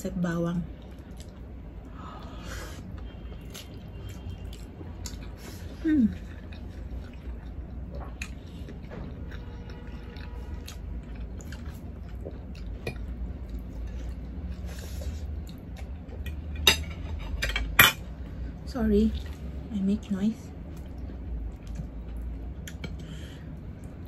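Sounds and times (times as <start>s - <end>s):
person chewing food: 0.8s - 17.1s, 20.6s - 24.0s.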